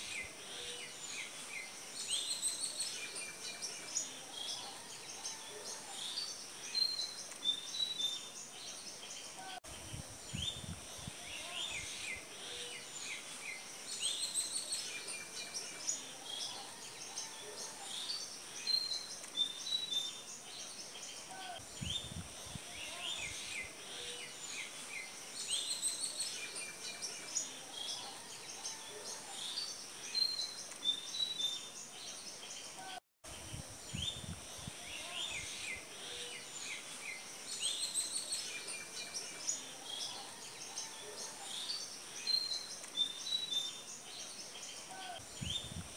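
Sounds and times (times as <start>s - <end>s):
faint outdoor hiss: 0.0s - 45.9s
small birds chirping: 0.0s - 45.9s.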